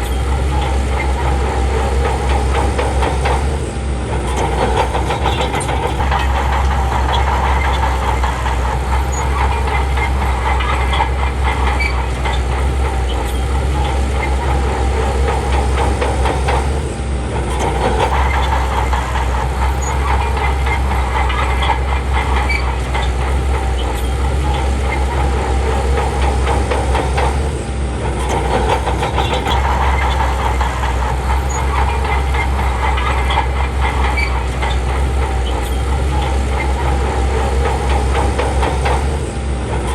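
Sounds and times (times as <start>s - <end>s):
heavy diesel engine rumble: 0.0s - 39.9s.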